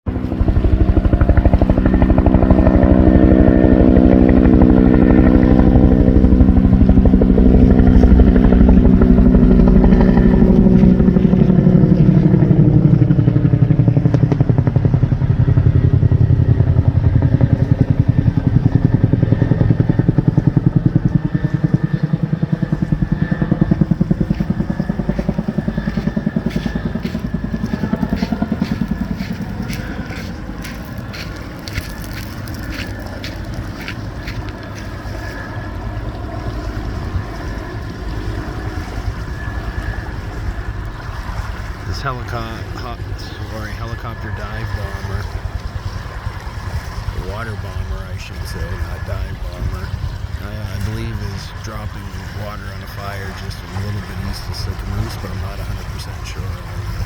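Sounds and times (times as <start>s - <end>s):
helicopter flying past: 0.1s - 57.0s.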